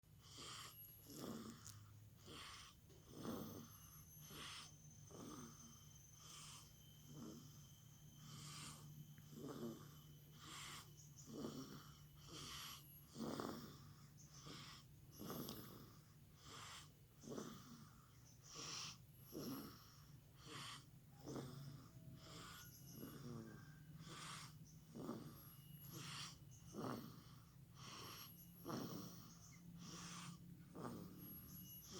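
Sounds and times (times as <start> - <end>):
faint snoring: 0.1 - 31.9.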